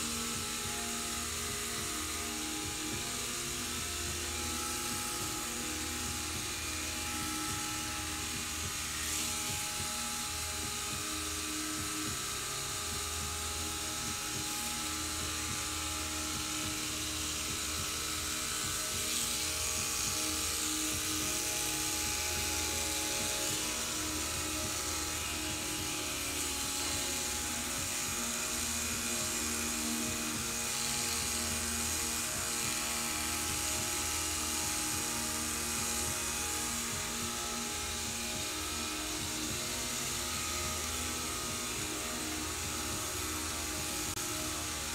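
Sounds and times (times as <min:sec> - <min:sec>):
background music: 0:00.0 - 0:44.9
electric pet clippers buzzing: 0:00.0 - 0:44.9.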